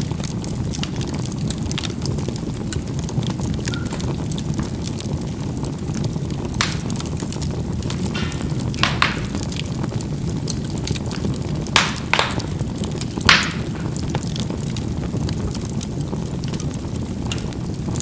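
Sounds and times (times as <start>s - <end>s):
charcoal crackling and popping: 0.0s - 18.0s
low rumble of fire: 0.0s - 18.0s.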